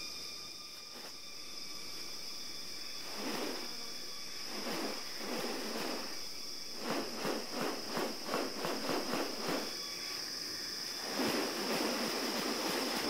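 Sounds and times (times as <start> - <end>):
high-pitched insect drone: 0.0 - 13.0
rapid evenly spaced pulses: 2.2 - 13.0.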